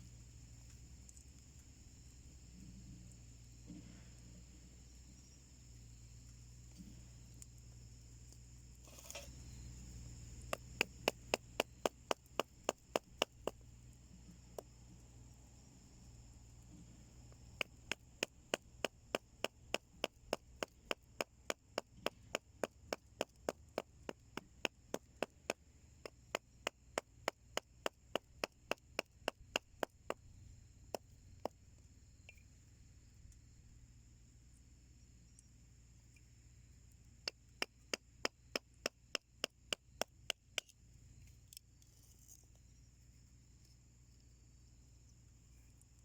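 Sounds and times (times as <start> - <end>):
high insect drone: 0.0 - 46.0.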